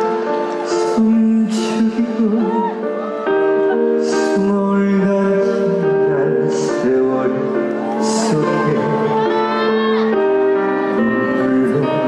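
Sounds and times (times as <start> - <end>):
person singing slow song: 0.0 - 12.0.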